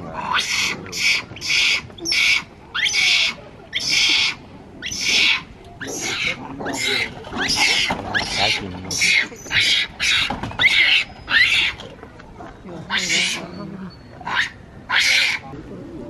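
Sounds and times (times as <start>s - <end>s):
monkeys screaming: 0.2s - 11.9s, 12.9s - 13.6s, 14.2s - 15.5s.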